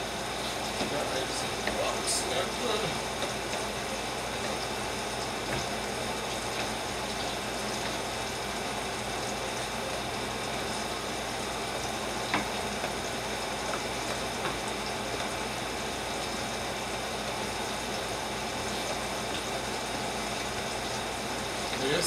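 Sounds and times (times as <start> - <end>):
kitchen noise hiss: 0.0 - 22.0.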